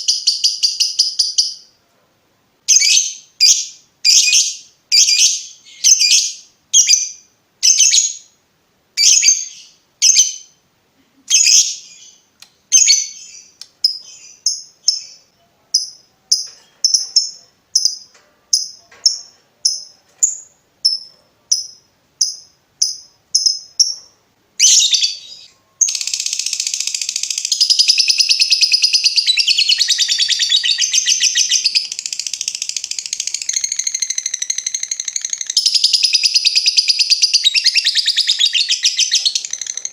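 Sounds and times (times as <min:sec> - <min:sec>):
bird chirping: 0:00.0 - 0:01.8, 0:02.7 - 0:08.4, 0:09.0 - 0:10.6, 0:11.2 - 0:39.9.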